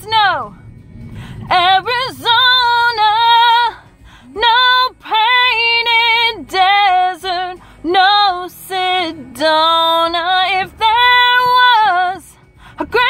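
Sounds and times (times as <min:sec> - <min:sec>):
woman singing: 0:00.0 - 0:00.6, 0:01.5 - 0:13.0.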